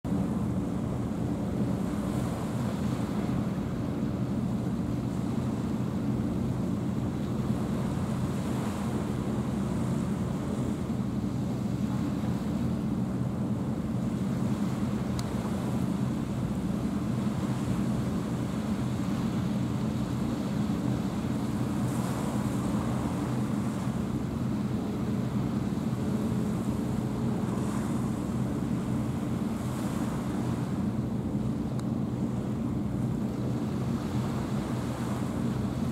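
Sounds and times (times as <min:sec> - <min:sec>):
boat engine drone: 0:00.1 - 0:35.9
small waves at shoreline: 0:00.1 - 0:35.9.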